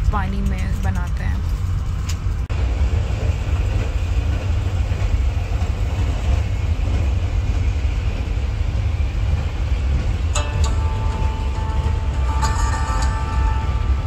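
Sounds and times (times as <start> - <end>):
moving train rumble: 0.0 - 14.0.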